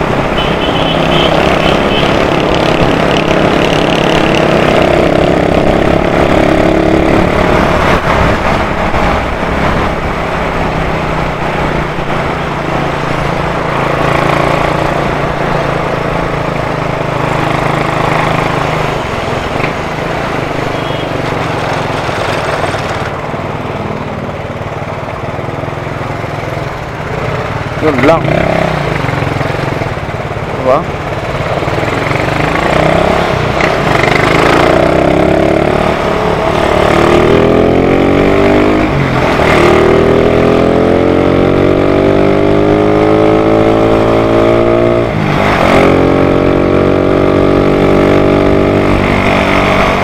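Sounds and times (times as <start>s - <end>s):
motorcycle engine running: 0.0s - 50.0s
road and wind noise: 0.0s - 50.0s.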